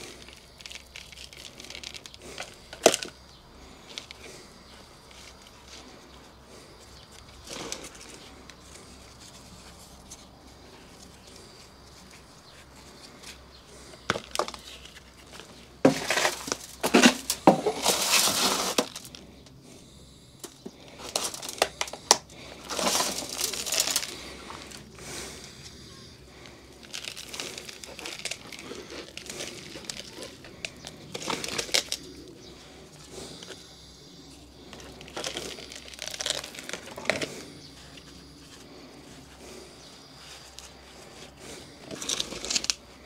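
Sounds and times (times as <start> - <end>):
crinkly rustling: 0.0 - 19.5, 20.7 - 43.0.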